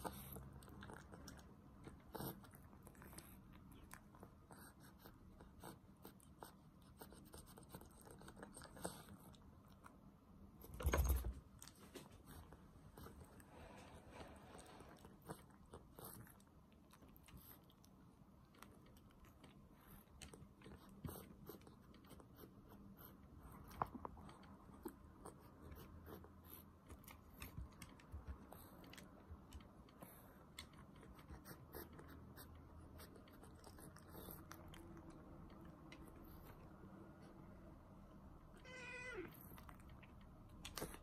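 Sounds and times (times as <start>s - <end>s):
cat chewing: 0.0s - 10.4s, 11.4s - 37.7s, 39.3s - 41.0s.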